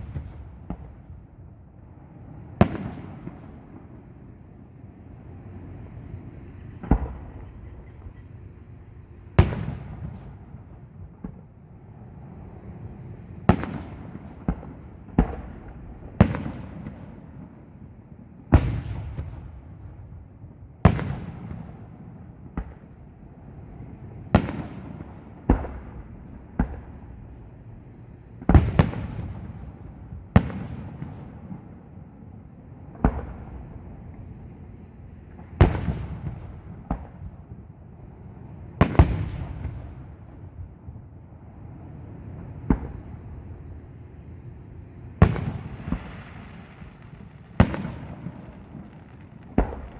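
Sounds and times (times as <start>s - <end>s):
fireworks bursting with echo: 0.0s - 49.9s.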